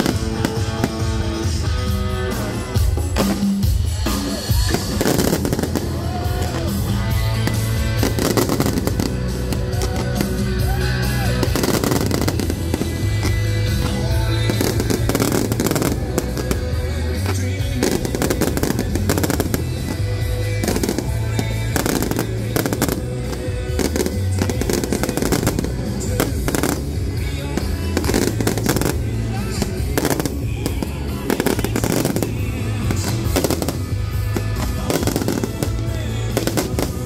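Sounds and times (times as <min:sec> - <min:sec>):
fireworks exploding: 0:00.0 - 0:37.0
loud music with bass line: 0:00.0 - 0:37.0.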